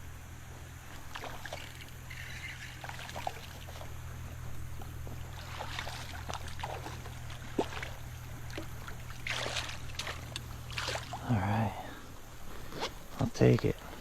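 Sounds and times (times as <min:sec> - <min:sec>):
creek water trickling: 0:00.0 - 0:14.0
steady low rumble: 0:00.0 - 0:14.0.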